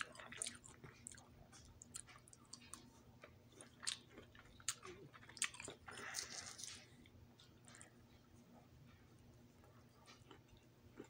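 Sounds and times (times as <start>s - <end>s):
person chewing with wet smacks: 0.0s - 11.0s.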